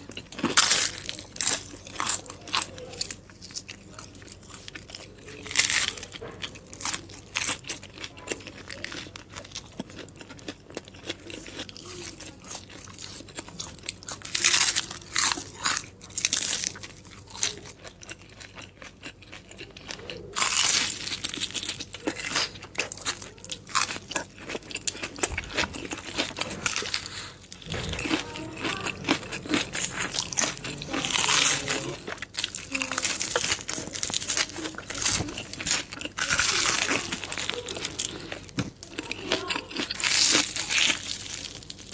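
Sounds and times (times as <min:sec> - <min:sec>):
person chewing crunchy food: 0:00.0 - 0:41.9.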